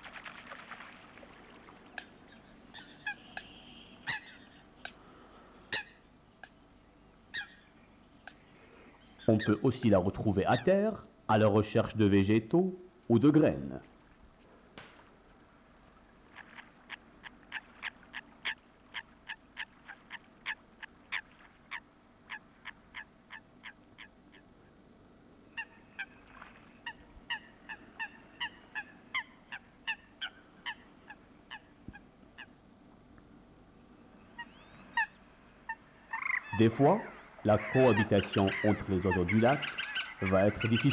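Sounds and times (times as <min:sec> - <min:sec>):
waterbirds calling: 0:00.0 - 0:24.8, 0:25.4 - 0:32.7, 0:33.8 - 0:40.9.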